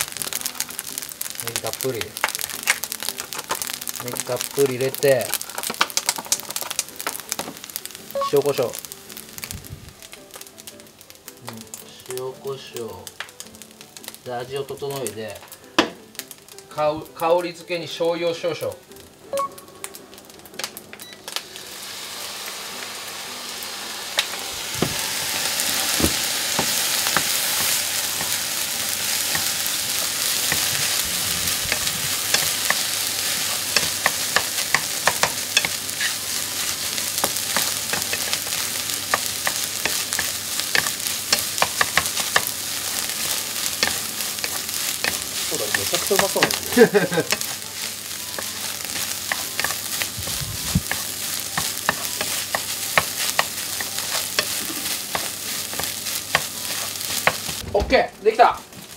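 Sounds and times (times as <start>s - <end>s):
rice sizzling in frying pan: 0.0s - 58.9s.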